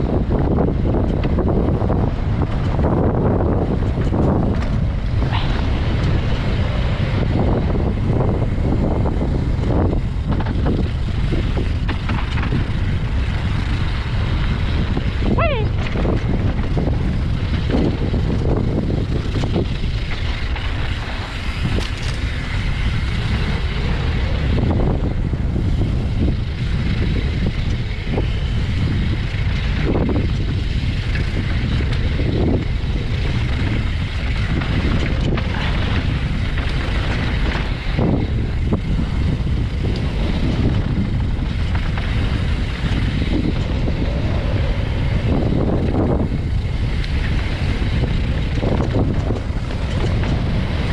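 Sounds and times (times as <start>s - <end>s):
bike knocks and rattles: 0.0s - 50.9s
tyres rumbling over rocks: 0.0s - 50.9s
wind buffeting microphone: 0.0s - 50.9s.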